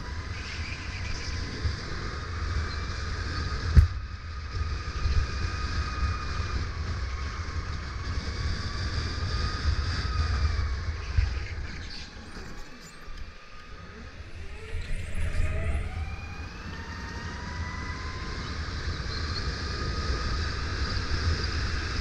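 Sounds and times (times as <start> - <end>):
electric kart motor whining: 0.0 - 22.0
wind rumble on microphone: 0.0 - 22.0.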